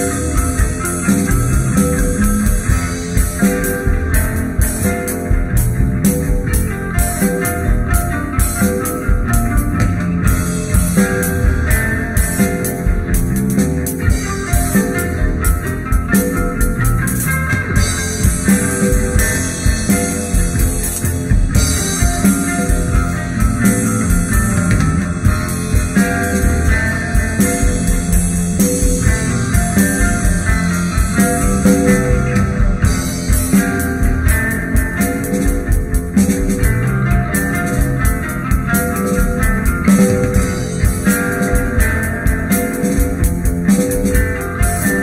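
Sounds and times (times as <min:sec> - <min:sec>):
instrumental band music: 0:00.0 - 0:45.0.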